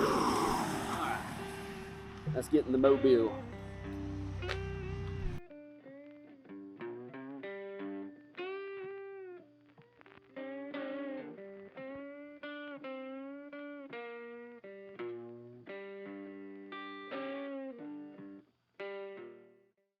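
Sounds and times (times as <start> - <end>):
electric guitar sustained notes: 0.0 - 19.4.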